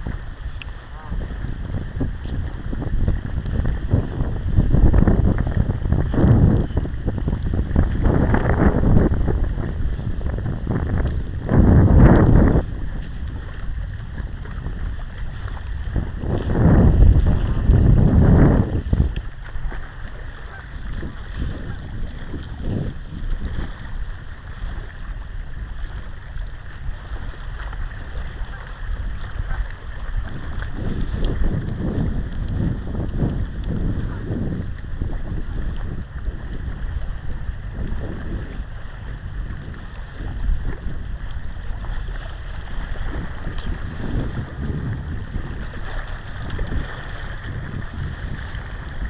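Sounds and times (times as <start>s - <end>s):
wind on microphone: 0.0s - 49.0s.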